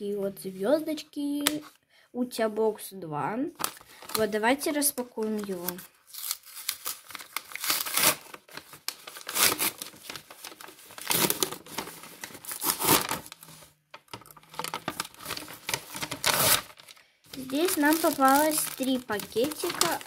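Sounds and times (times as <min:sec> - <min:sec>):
paper rustling and crinkling: 0:03.6 - 0:20.0.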